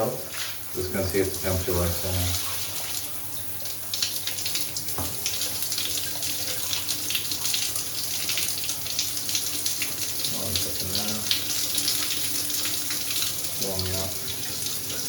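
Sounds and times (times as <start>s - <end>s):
shower water splashing: 0.0s - 15.0s.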